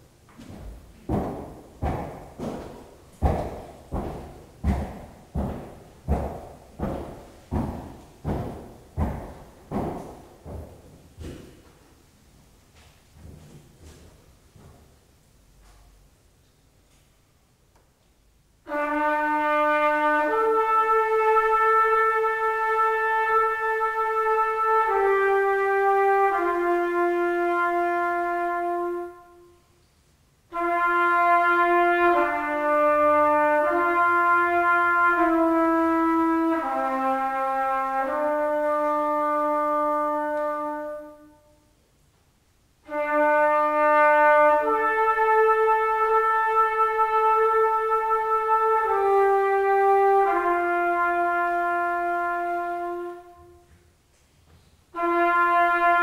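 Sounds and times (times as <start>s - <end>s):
solo trumpet melody: 0.0s - 11.4s, 18.6s - 29.8s, 30.4s - 41.8s, 42.8s - 53.9s, 54.9s - 56.0s.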